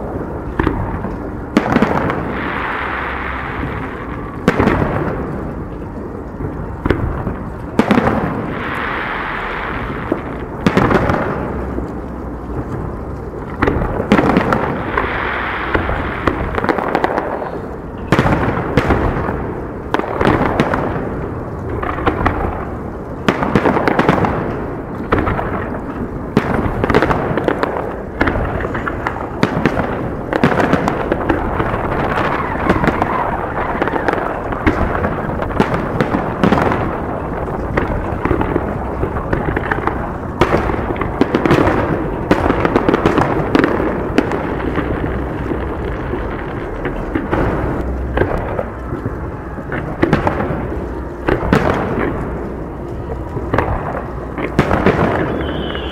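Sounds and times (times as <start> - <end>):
continuous rumble: 0.0 - 55.9
fireworks bangs: 0.0 - 55.9.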